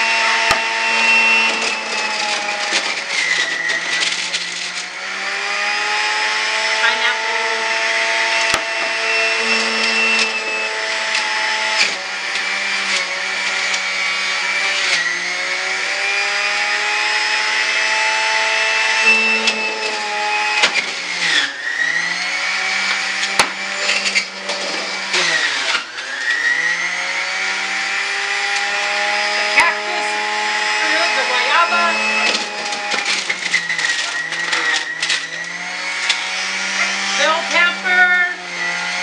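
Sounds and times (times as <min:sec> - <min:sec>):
juicer motor whining: 0:00.0 - 0:39.0.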